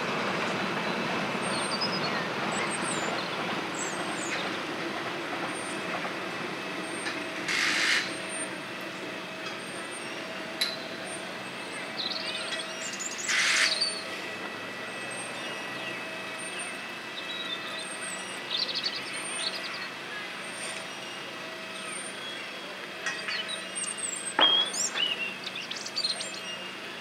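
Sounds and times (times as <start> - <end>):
steady outdoor hum with tones: 0.0 - 27.0.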